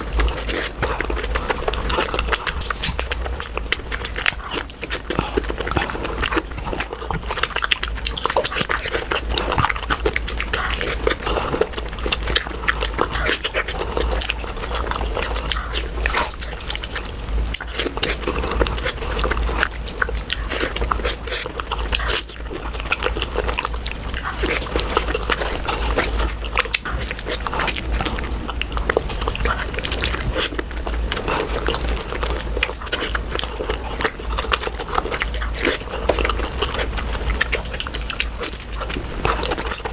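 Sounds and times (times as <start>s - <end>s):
lip smacking: 0.0s - 39.9s
slurping: 0.0s - 39.9s
wet chewing: 0.0s - 39.9s.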